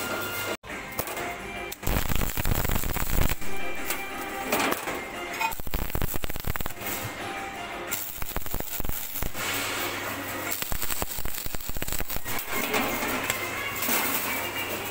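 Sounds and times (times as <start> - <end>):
welding arc crackling: 1.0 - 13.5.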